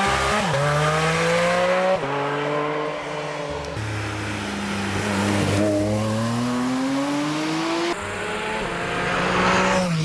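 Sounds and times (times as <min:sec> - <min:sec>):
car approaching at high revs: 0:00.0 - 0:10.0
car engine accelerating: 0:00.0 - 0:10.0.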